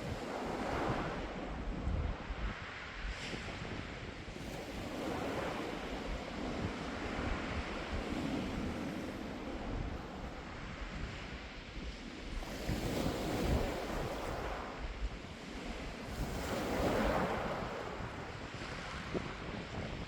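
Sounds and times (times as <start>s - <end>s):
steady surf noise: 0.0s - 20.0s.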